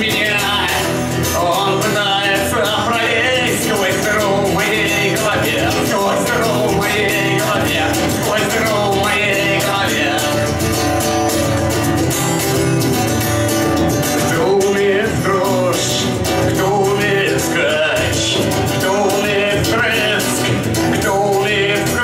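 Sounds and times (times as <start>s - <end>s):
man singing: 0.0s - 10.8s, 14.1s - 22.0s
acoustic guitar strumming: 0.0s - 22.0s.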